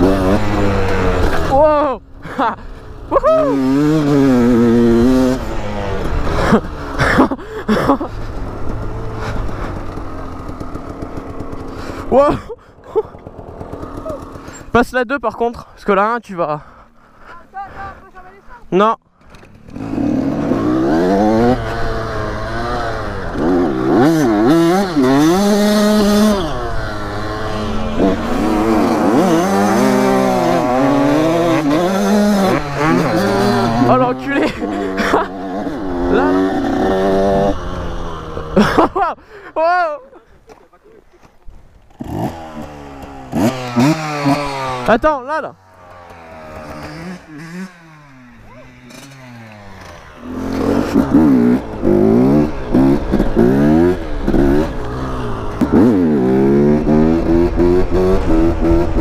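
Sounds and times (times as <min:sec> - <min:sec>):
dirt bike engine revving: 0:00.0 - 0:14.8, 0:19.2 - 0:39.1, 0:41.8 - 0:59.0.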